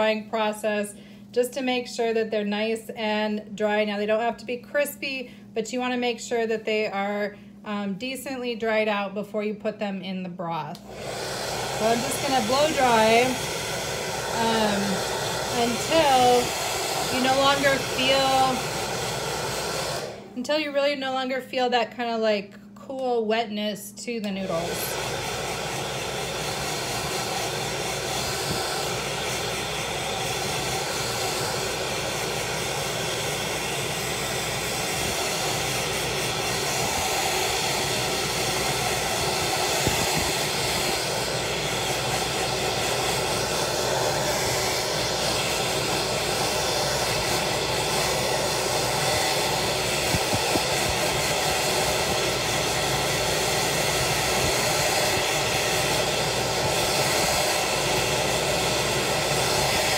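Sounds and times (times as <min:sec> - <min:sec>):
hair dryer blowing air: 0:00.0 - 0:09.6, 0:10.7 - 0:22.3, 0:23.0 - 0:59.9.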